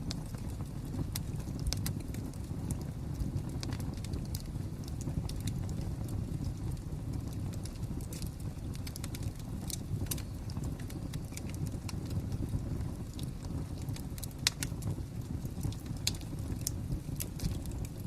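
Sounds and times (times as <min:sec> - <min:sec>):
fire crackling and popping: 0:00.0 - 0:18.0
low fire rumble: 0:00.0 - 0:18.0.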